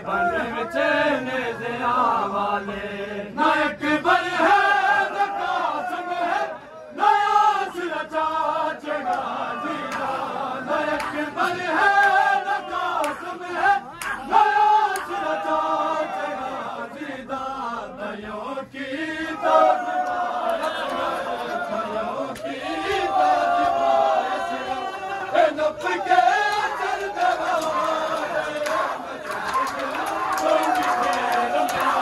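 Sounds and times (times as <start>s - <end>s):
men chanting a lament: 0.0s - 32.0s.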